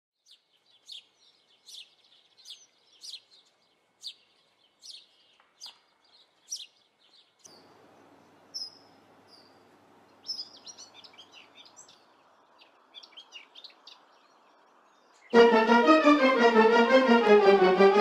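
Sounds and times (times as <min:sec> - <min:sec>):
bird chirping: 0:00.2 - 0:15.4
outdoor background hiss: 0:00.2 - 0:18.0.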